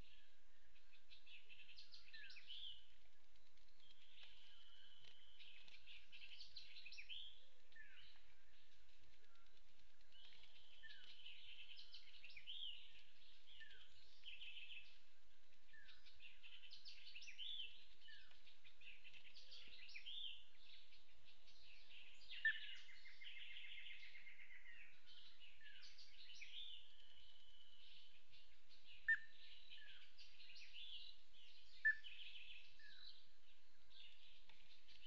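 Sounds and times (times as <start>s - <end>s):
bird chirps: 0.0s - 35.0s.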